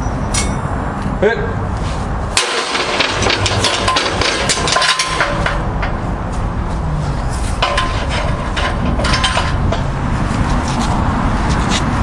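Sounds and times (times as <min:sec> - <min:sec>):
engine running: 0:02.2 - 0:12.0.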